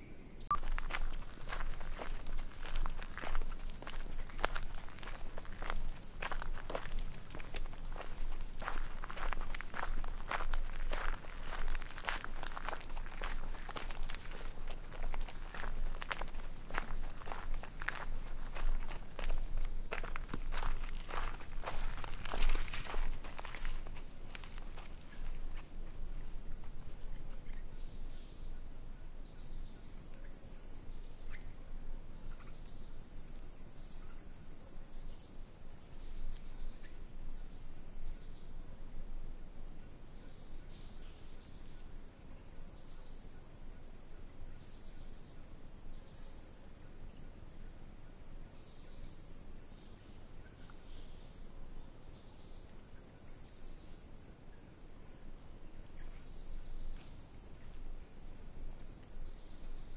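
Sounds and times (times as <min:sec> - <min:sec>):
insect chirping pulses: 0:00.0 - 0:59.9
insect chorus high-pitched drone: 0:00.0 - 0:59.9.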